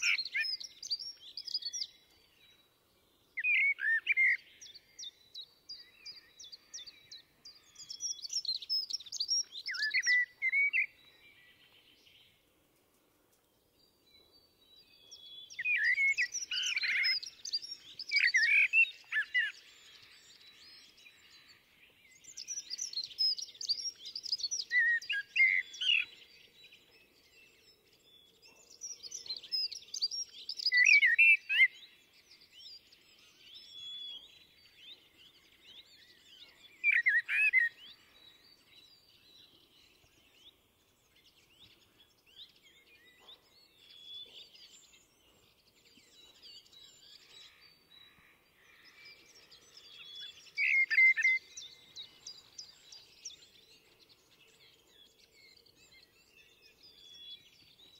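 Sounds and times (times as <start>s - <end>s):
blackbird singing: 0.0s - 12.4s, 13.8s - 57.9s.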